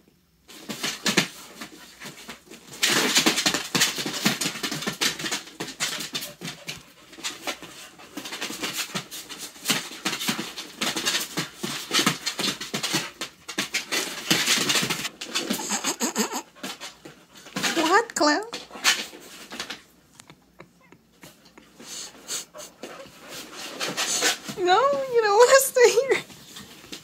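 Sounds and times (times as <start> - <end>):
dogs scuffling: 0.5 - 27.0.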